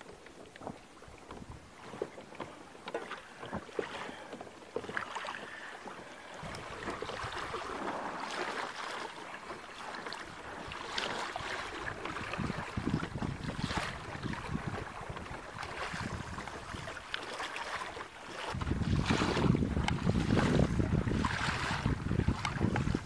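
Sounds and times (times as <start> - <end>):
water rushing: 0.0 - 23.0
water splashing against kayak: 0.0 - 23.0.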